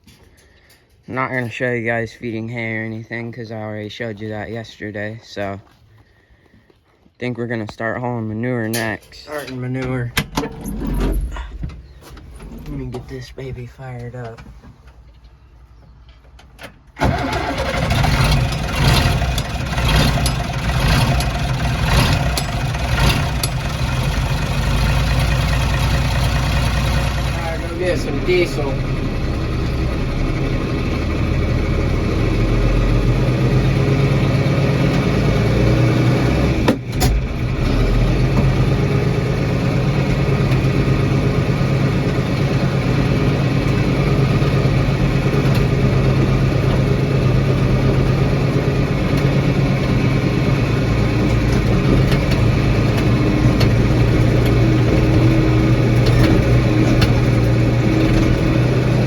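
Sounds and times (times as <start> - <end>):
diesel engine running: 8.4 - 16.1, 16.8 - 59.0.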